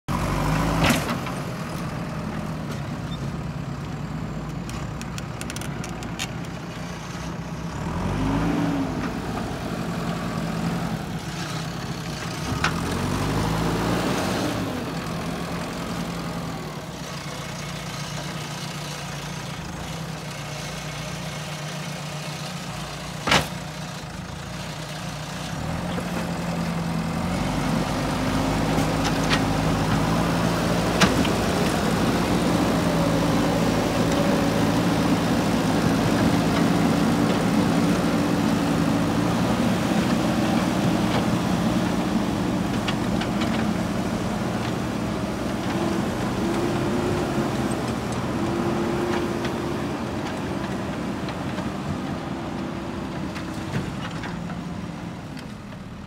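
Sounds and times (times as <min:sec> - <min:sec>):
backhoe diesel engine under load: 0:00.1 - 0:56.0
loader bucket pushing dirt: 0:00.1 - 0:56.0.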